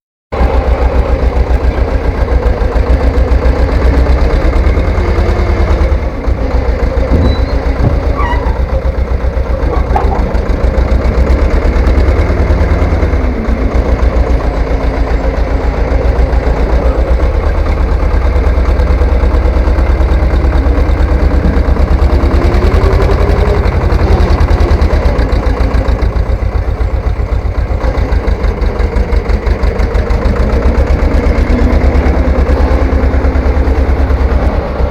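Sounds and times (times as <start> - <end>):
tractor engine running: 0.3 - 34.9.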